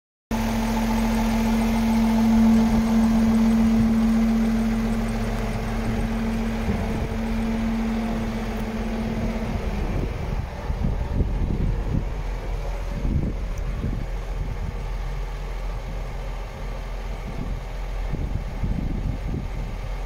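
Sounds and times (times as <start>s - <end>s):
diesel truck engine droning: 0.3s - 20.0s.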